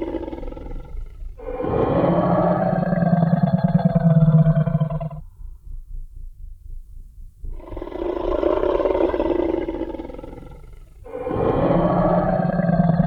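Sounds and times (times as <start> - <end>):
dinosaur roar: 0.0 - 5.2, 7.6 - 13.0
low rumble: 0.0 - 13.0.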